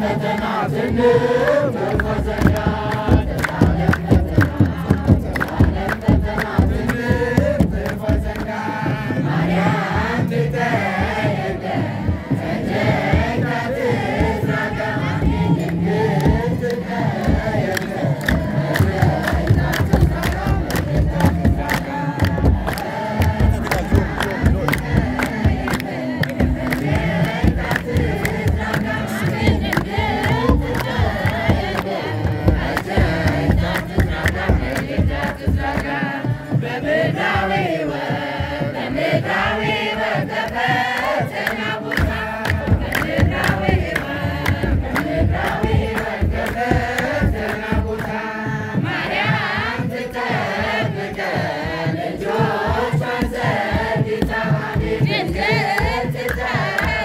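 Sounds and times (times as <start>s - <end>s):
crowd singing a hymn: 0.0s - 57.0s
drum beats: 0.0s - 57.0s
hand-clapping: 0.1s - 57.0s.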